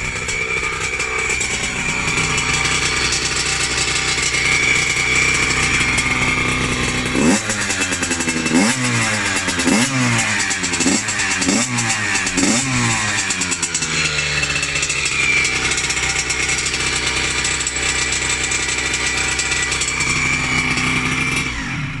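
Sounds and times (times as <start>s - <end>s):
two-stroke engine idling and revving: 0.0s - 22.0s.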